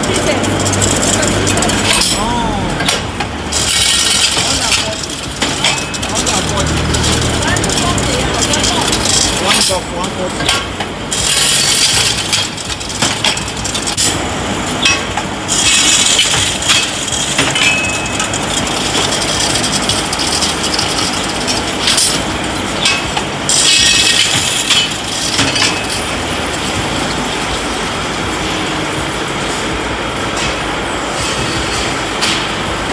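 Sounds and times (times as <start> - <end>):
factory machinery din: 0.0 - 32.9.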